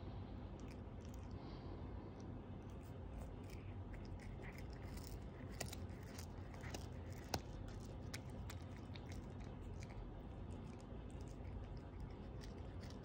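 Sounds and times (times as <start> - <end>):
cat chewing and crunching fish: 0.4 - 1.7, 2.5 - 13.0.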